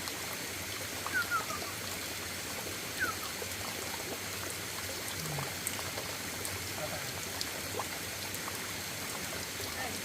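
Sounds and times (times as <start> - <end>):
running water over stones: 0.0 - 10.0.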